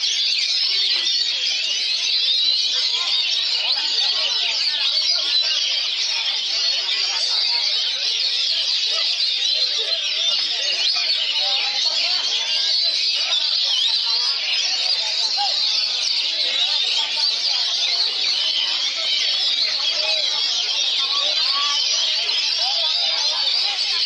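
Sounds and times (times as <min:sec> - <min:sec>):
birds singing: 0:00.0 - 0:24.0.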